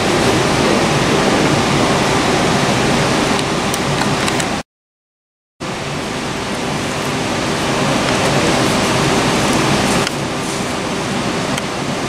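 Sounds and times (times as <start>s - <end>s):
model trains rumbling: 0.0s - 4.6s, 5.6s - 12.0s.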